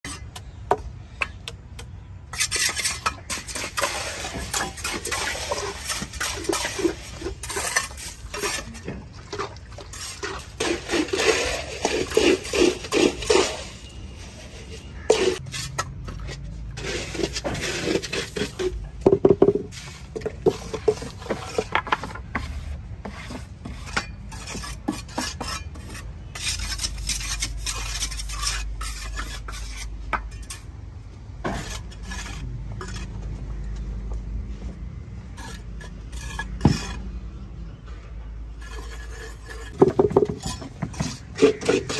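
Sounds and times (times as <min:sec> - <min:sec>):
trowel scraping cement and gravel: 0:00.0 - 0:00.6, 0:02.2 - 0:30.8, 0:31.4 - 0:33.4, 0:35.3 - 0:37.2, 0:38.5 - 0:41.9.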